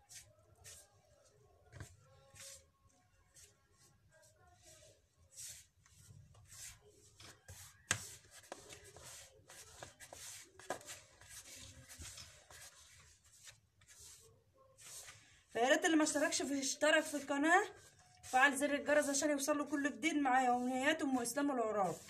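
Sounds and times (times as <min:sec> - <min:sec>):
hands rubbing flour in bowl: 0:00.0 - 0:22.0.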